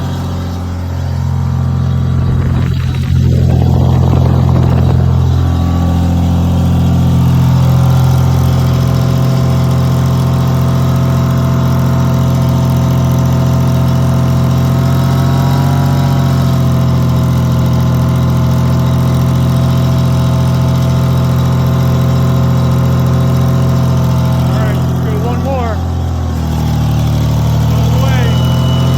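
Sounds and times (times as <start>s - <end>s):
generator engine running: 0.0s - 28.9s.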